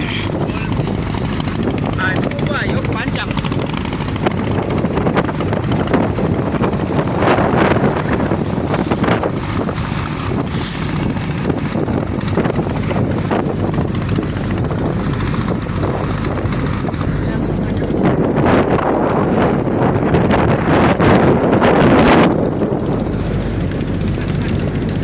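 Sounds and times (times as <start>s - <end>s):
boat engine running: 0.0s - 25.0s
wind buffeting microphone: 0.0s - 25.0s.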